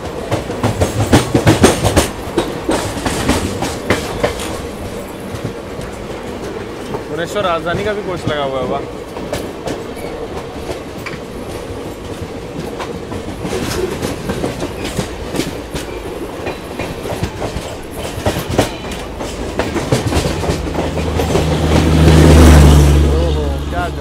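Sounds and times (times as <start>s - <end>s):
train running noise: 0.0s - 24.0s
wheels clacking over rail joints: 0.0s - 24.0s.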